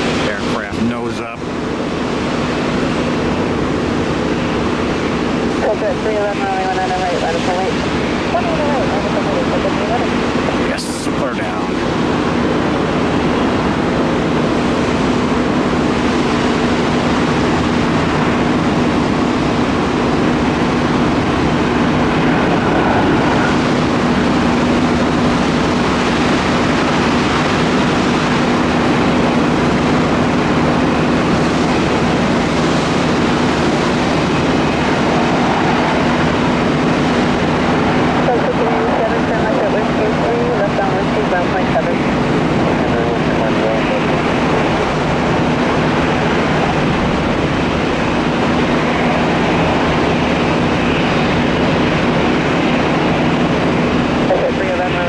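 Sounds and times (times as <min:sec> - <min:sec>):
jet engines rumbling: 0:00.0 - 0:55.0.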